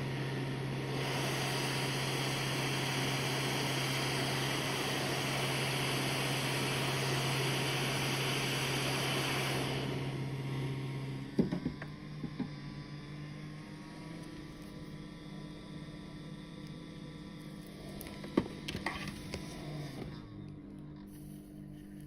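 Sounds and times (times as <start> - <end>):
motor blowing with low hum: 0.0 - 22.0.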